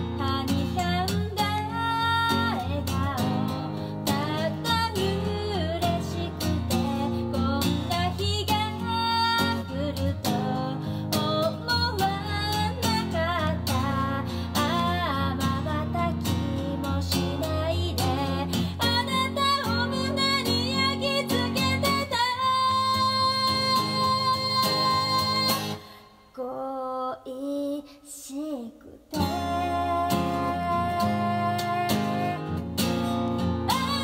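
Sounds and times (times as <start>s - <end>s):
acoustic guitar strumming: 0.0s - 26.0s, 29.2s - 34.0s
woman singing a ballad: 0.0s - 34.0s.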